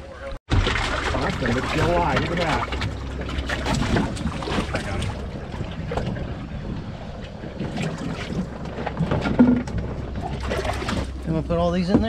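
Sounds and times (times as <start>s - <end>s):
boat engine rumble: 0.0s - 12.0s
wind buffeting microphone: 1.2s - 12.0s.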